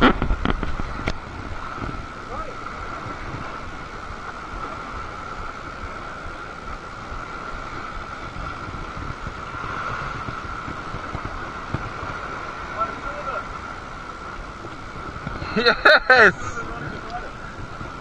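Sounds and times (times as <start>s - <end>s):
waves washing against rock: 0.0s - 18.0s
wind buffeting microphone: 0.0s - 18.0s.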